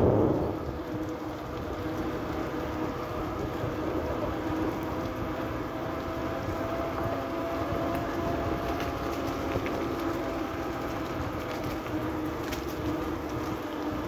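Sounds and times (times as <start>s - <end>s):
bicycle tyres on wet path: 0.0s - 14.0s.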